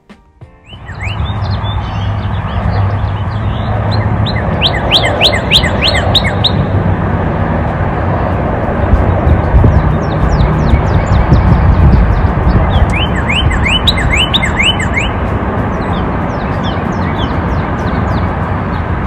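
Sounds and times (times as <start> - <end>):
birds chirping: 0.6 - 6.8, 8.1 - 19.0.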